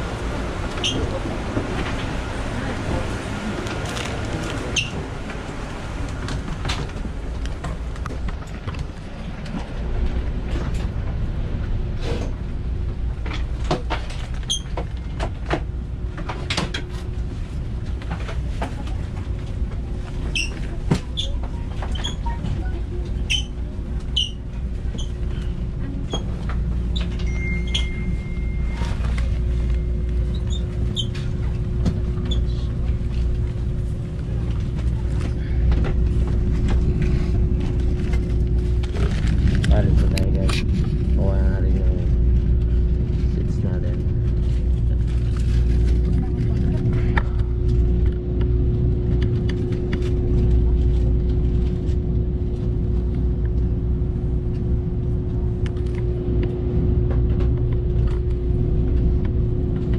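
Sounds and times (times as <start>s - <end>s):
train cabin hum: 0.0s - 59.9s.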